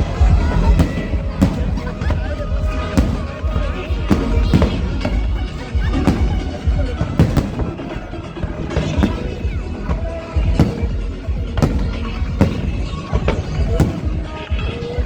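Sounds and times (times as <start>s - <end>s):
fireworks bursting with bangs: 0.0s - 15.0s
music playing: 0.0s - 15.0s.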